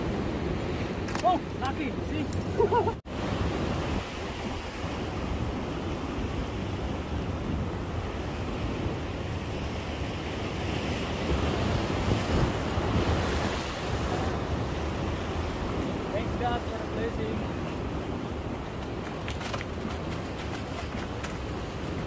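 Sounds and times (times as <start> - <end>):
waves washing against breakwater: 0.0 - 22.0
wind on microphone: 0.0 - 22.0.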